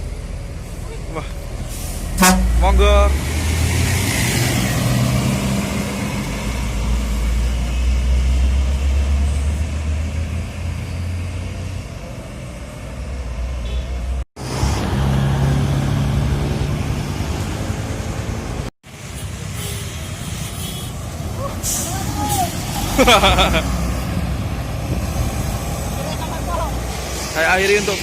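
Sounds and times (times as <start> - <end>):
bus engines humming: 0.0 - 28.0
heavy road traffic: 0.0 - 28.0.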